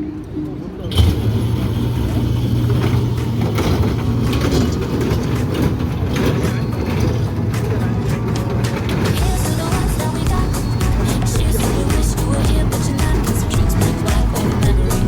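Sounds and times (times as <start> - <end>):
rattling and clicking of cars on track: 0.0 - 15.0
train ride motor hum: 0.0 - 15.0.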